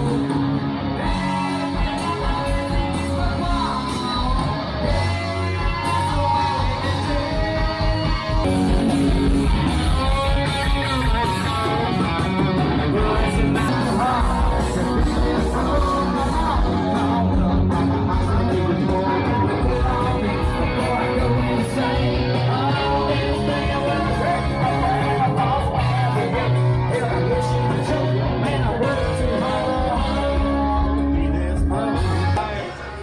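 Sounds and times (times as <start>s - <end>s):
person singing: 0.0s - 9.3s, 12.8s - 33.0s
electric guitar: 0.0s - 33.0s
live rock band: 0.0s - 33.0s.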